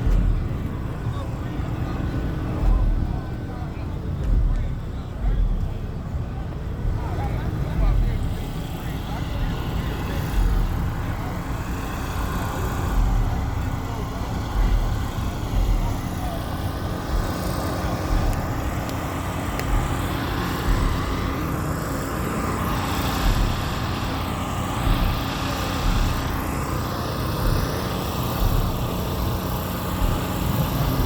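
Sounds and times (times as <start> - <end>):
motor vehicles rumbling: 0.0 - 31.0.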